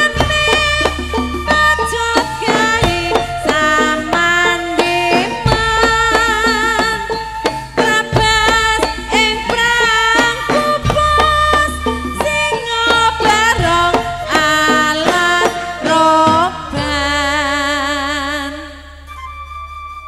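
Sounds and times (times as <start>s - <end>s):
fast melody of bending notes: 0.0s - 20.0s.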